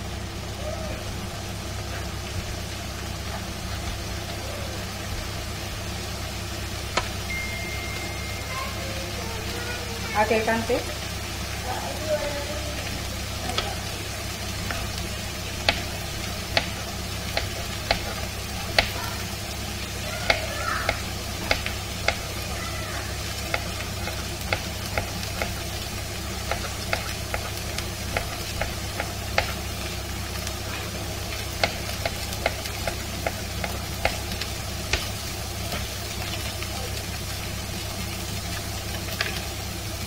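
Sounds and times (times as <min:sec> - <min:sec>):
vegetables sizzling in oil: 0:00.0 - 0:40.0.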